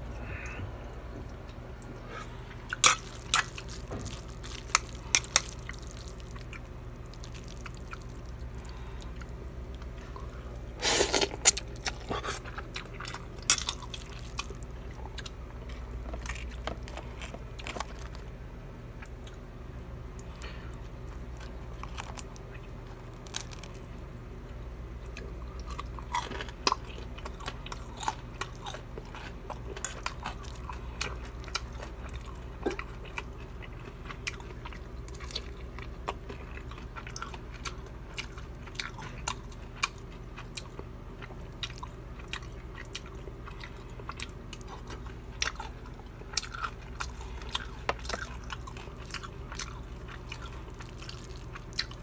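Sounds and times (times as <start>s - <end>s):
steady low hum: 0.0s - 52.0s
crunching and chewing food: 0.1s - 52.0s.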